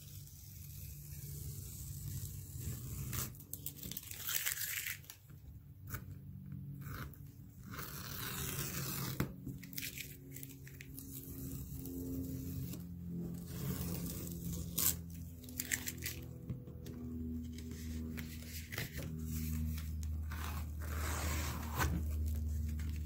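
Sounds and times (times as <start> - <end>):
masking tape ripping off paper: 0.0 - 5.3, 6.8 - 16.4, 17.4 - 23.0
low steady hum: 0.0 - 23.0.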